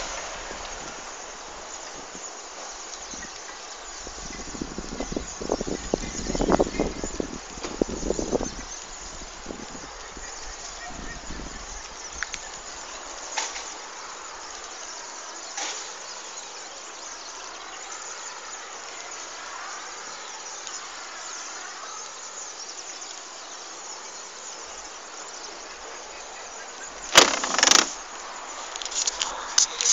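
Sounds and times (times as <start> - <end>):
outdoor background hiss: 0.0 - 29.9.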